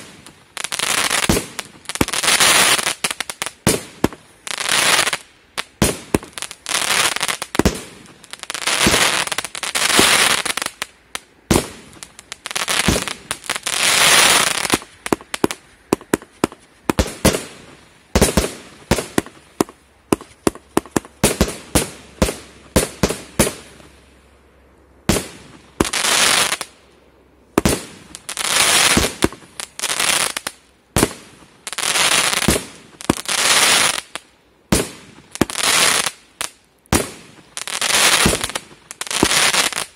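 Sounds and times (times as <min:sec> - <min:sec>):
firework crackling: 0:00.0 - 0:24.2, 0:25.1 - 0:26.9, 0:27.5 - 0:39.9.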